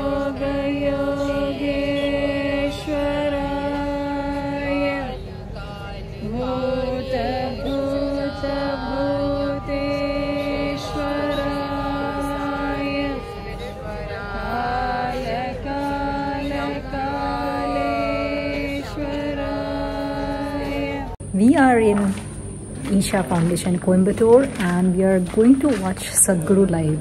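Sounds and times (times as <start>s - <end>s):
person chanting: 0.0s - 22.2s.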